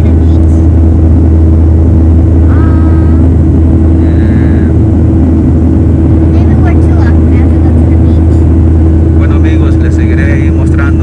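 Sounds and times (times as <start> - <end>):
jet cabin engine drone: 0.0 - 11.0.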